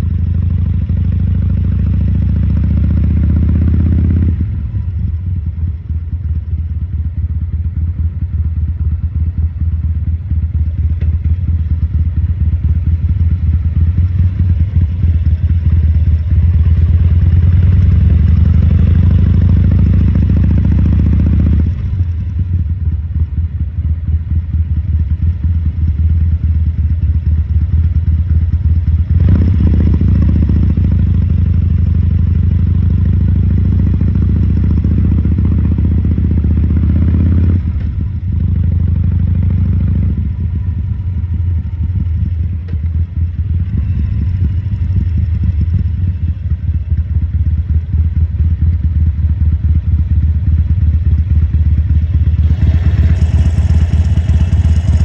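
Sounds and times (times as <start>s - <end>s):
motorcycle engine revving: 0.0s - 6.9s, 8.7s - 22.9s, 24.6s - 55.0s.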